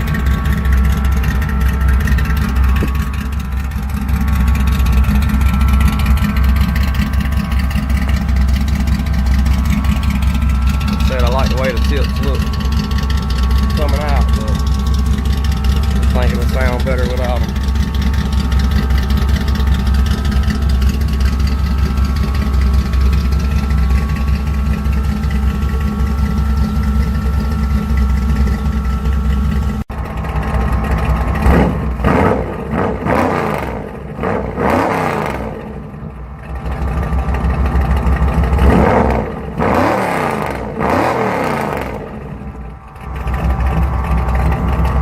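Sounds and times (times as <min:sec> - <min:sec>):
car engine idling: 0:00.0 - 0:45.0
engine revving: 0:00.0 - 0:45.0.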